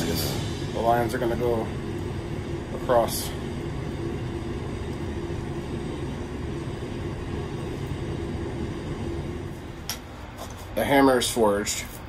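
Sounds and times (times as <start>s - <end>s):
shop machinery drone: 0.0s - 12.0s.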